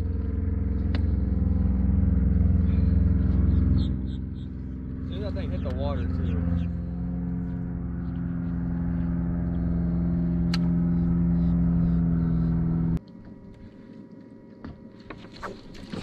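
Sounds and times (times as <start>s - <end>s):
engine drone with low hum: 0.0s - 16.0s.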